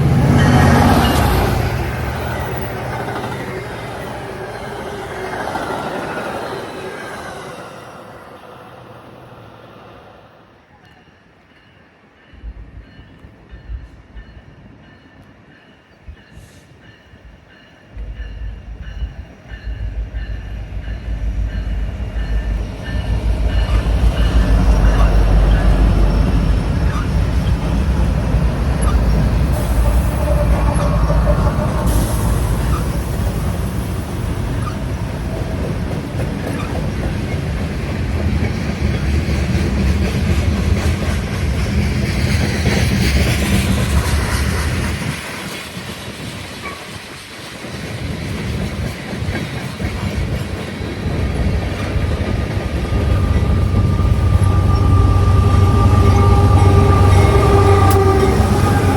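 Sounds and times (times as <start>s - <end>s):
train rumbling past: 0.0s - 58.9s.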